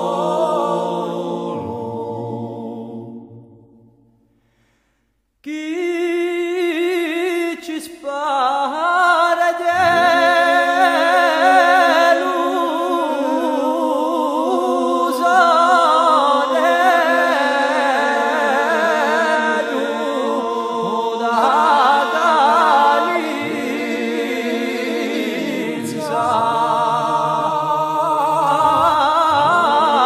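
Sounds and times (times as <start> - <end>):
unaccompanied voices singing: 0.0 - 3.8, 9.0 - 30.0.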